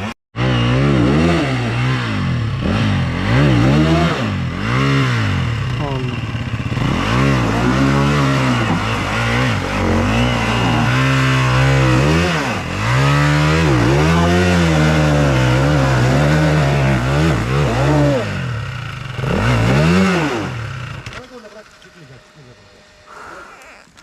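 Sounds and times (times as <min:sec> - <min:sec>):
dirt bike engine revving: 0:00.0 - 0:23.5.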